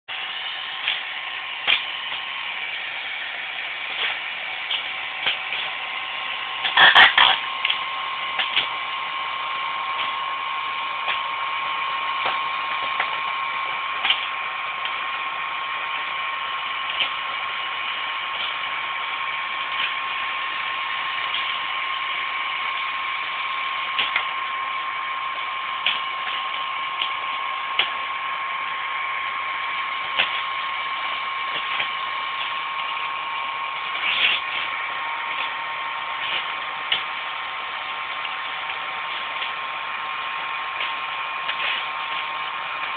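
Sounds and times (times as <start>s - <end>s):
hair dryer whine: 0.1s - 42.9s.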